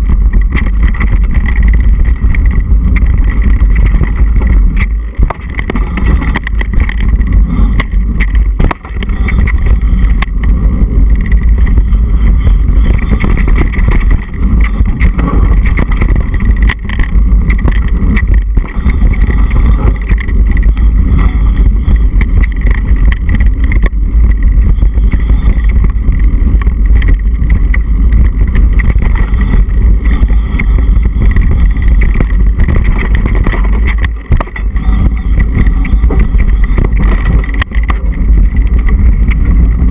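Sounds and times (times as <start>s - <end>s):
bike knocks and rattles: 0.0s - 39.9s
wind rumble on microphone: 0.0s - 39.9s.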